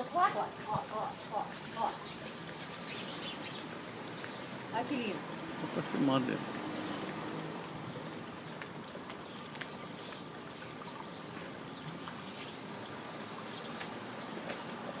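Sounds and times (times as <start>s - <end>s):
trickling water: 0.0s - 15.0s.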